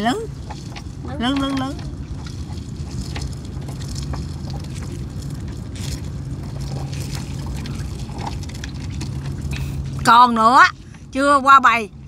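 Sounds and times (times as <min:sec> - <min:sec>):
low motor hum: 0:00.0 - 0:12.0
water splashing and trickling: 0:00.0 - 0:12.0.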